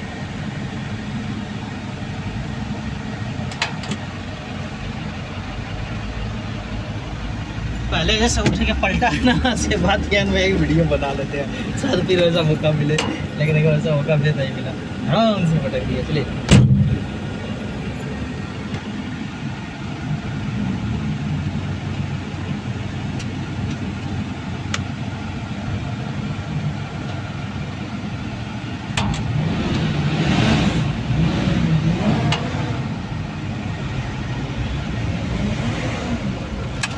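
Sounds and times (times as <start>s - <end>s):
diesel engine revving: 0.0s - 36.9s.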